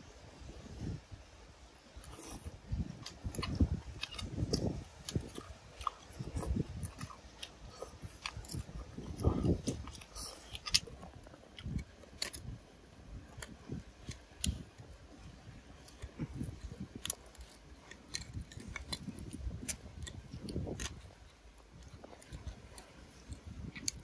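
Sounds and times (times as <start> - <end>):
wet chewing and mouth smacks: 1.9 - 24.0.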